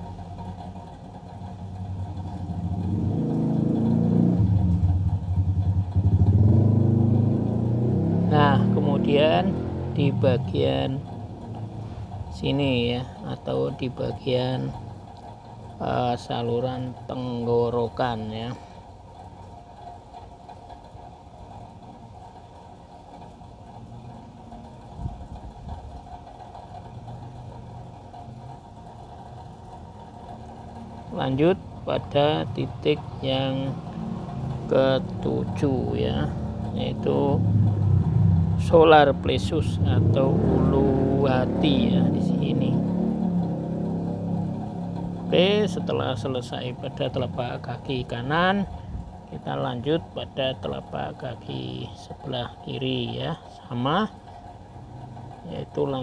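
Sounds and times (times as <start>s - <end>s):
low mechanical hum: 0.0s - 56.0s
vehicle engine droning: 0.0s - 56.0s.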